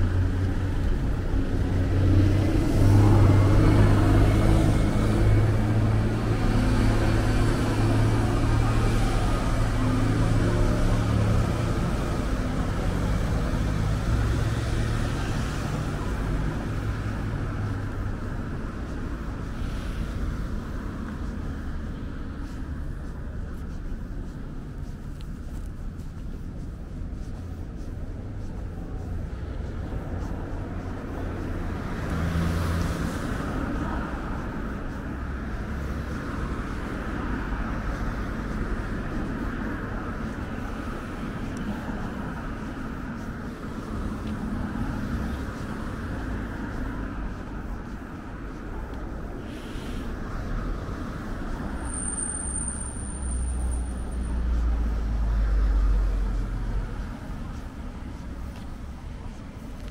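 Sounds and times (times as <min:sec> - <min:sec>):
traffic engines rumbling: 0:00.0 - 0:59.9
vehicle passing with tyre hiss: 0:00.0 - 0:59.9.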